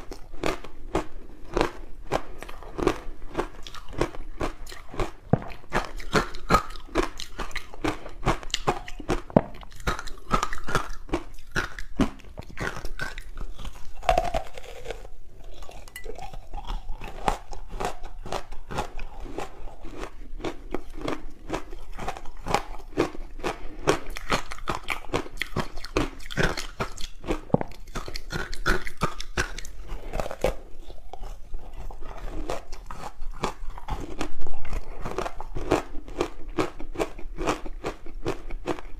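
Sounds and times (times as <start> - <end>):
crunching bites and chewing: 0.0 - 38.9.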